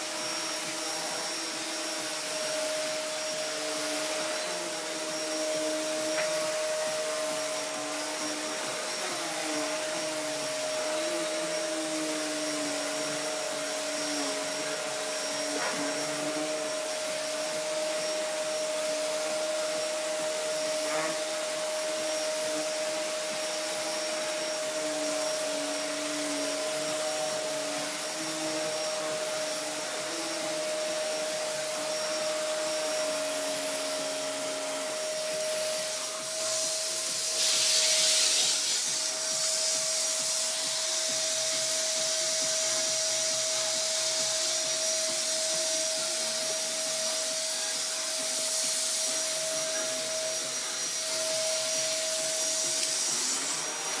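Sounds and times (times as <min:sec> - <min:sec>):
vacuum cleaner running on carpet: 0:00.0 - 0:54.0.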